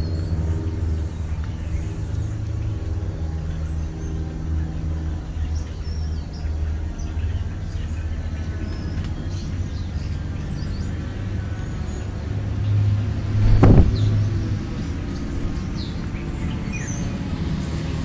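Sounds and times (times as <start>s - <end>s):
starlings chirping and whistling: 0.0s - 18.0s
vehicle engine humming: 0.0s - 18.0s.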